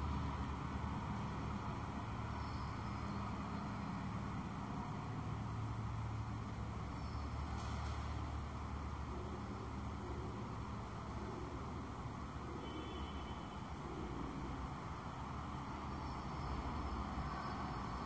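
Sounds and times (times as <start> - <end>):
background noise rush: 0.0 - 18.0.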